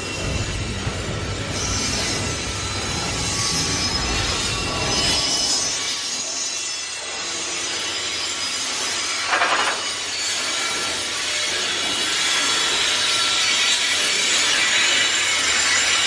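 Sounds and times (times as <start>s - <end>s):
train wheels grinding on rails: 0.0s - 16.0s.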